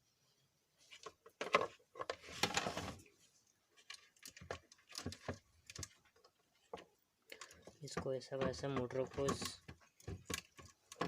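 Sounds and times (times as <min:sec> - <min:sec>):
plastic parts knocking and clicking: 0:01.0 - 0:02.8, 0:03.8 - 0:11.0.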